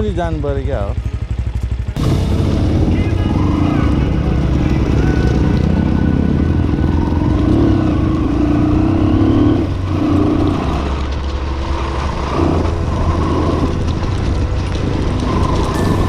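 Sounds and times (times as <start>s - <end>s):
dirt bike engine revving: 1.2s - 16.0s.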